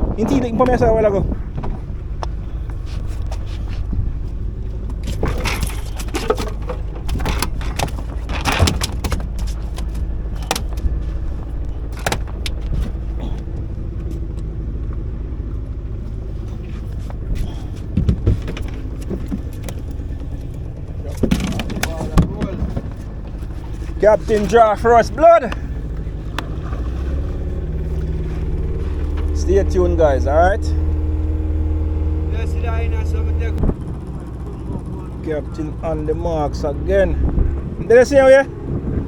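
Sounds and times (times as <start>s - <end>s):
boat engine idling: 0.0s - 39.0s
gear knocking and rattling: 0.0s - 39.0s.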